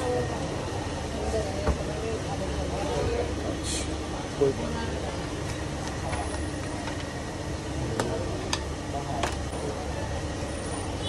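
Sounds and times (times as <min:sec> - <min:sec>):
busy street noise: 0:00.0 - 0:11.0.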